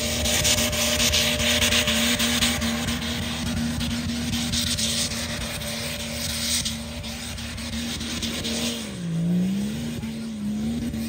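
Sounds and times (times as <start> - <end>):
diesel engine at high revs: 0.0 - 11.0
wheels spinning on snow: 0.0 - 11.0.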